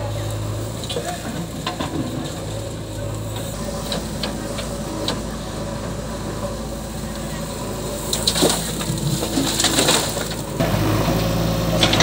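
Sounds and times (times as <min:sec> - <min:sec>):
bucket scraping earth and stones: 0:00.0 - 0:06.4, 0:07.6 - 0:12.0
diesel engine running: 0:00.0 - 0:12.0.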